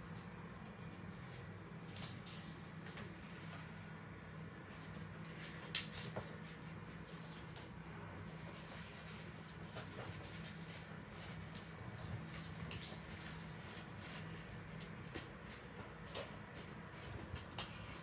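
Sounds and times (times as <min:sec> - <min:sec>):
paper and sticker sheets handled: 0:00.0 - 0:18.0
steady low hum: 0:00.0 - 0:18.0.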